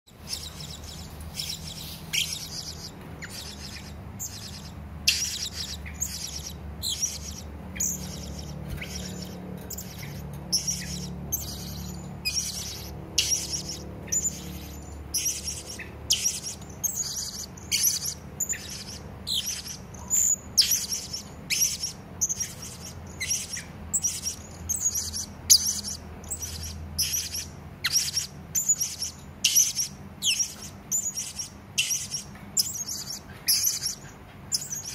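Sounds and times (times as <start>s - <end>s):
faint steady low hum: 0.1s - 34.9s.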